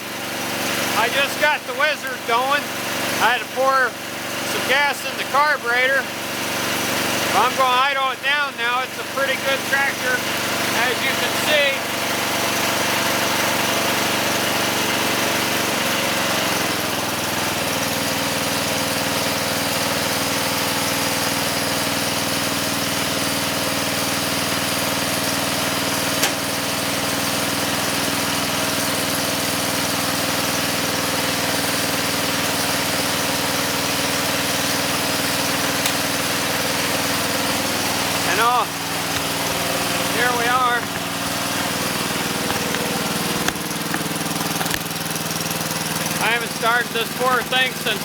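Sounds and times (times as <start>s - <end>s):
riding mower engine idling: 0.0s - 48.0s.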